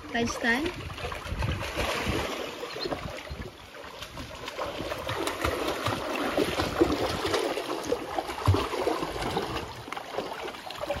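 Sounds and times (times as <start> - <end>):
dogs splashing through water: 0.0 - 11.0.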